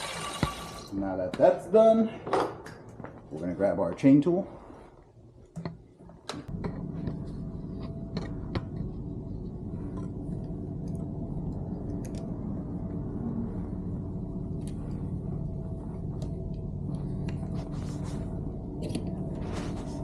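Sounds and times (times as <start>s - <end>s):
steady low hum: 2.1s - 20.0s.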